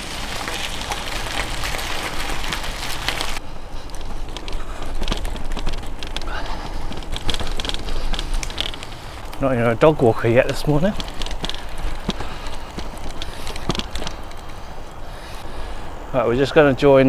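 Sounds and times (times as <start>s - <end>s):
bicycle rattling and clicking: 0.0s - 15.4s.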